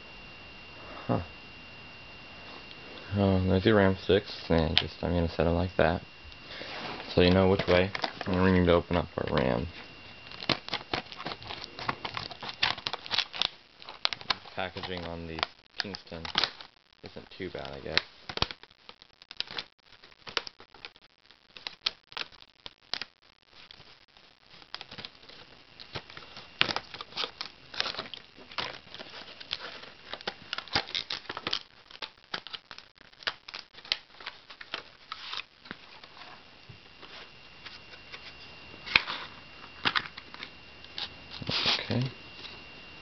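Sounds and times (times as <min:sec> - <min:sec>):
plastic packaging crinkling: 0:04.3 - 0:42.5.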